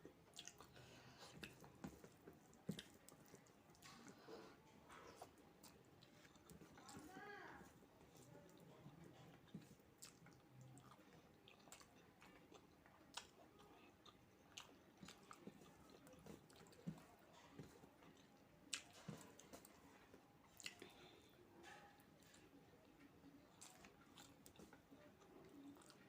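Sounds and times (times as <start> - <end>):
close chewing mouth sounds: 0.0 - 26.0.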